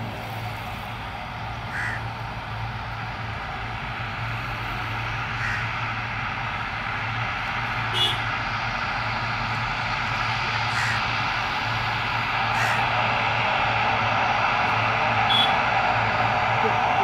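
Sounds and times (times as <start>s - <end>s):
turboprop engines running: 0.0s - 17.0s.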